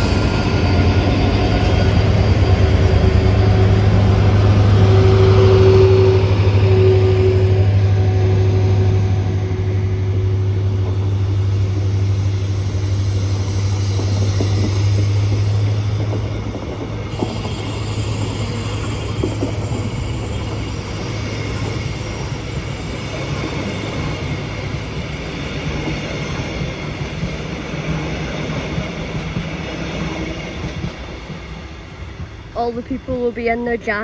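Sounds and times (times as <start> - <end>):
locomotive engine drone: 0.0 - 34.0
train wheels on rails: 0.0 - 34.0.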